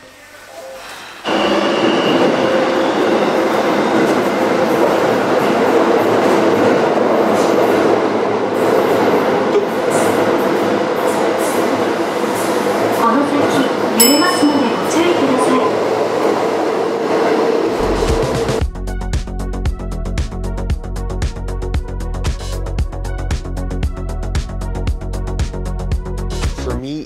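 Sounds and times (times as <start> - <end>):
subway train rumbling on rails: 0.0 - 26.4.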